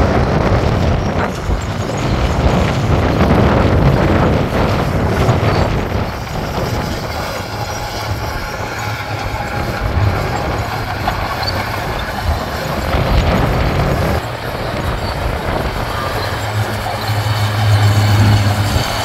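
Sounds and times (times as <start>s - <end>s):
heavy diesel machinery running: 0.0s - 19.0s.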